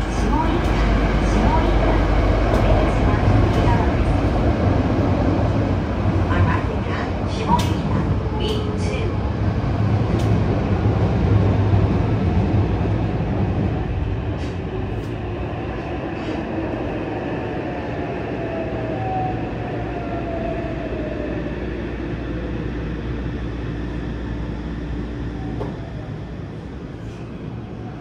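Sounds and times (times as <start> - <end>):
train wheel and rail rumble: 0.0 - 28.0.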